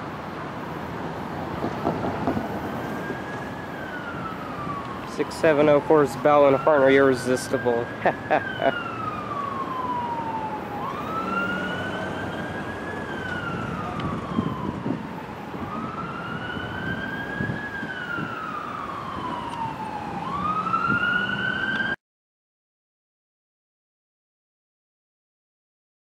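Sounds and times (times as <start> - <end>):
emergency vehicle siren wailing: 0.1 - 22.0.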